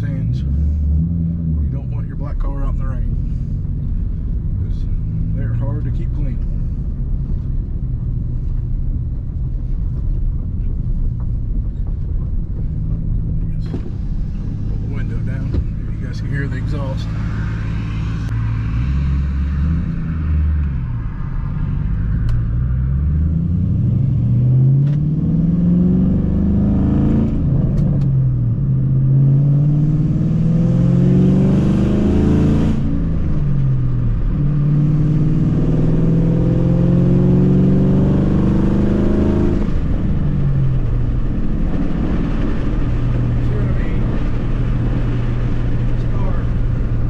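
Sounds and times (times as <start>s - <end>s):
car exhaust accelerating: 0.0s - 47.0s.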